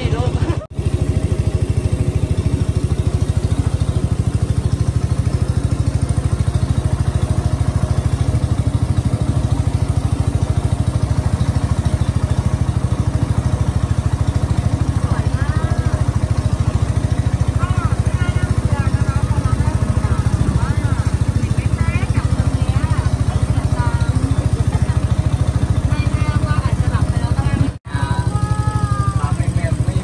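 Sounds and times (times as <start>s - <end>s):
boat engine chugging: 0.0s - 30.0s.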